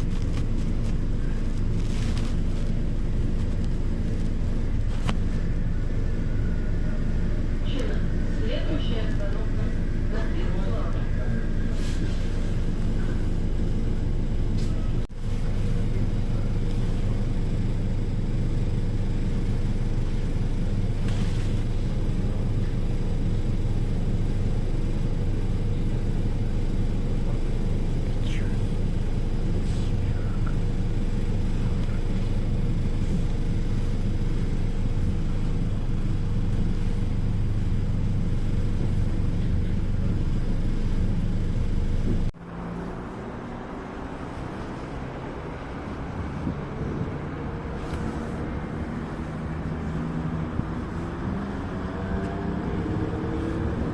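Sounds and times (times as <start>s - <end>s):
train rumbling: 0.0s - 23.9s, 25.8s - 53.9s.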